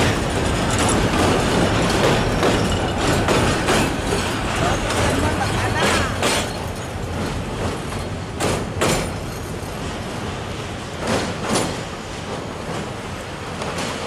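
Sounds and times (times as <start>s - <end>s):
wheel clacks over rail joints: 0.0s - 10.2s, 10.9s - 14.0s
train rumbling over bridge: 0.0s - 14.0s.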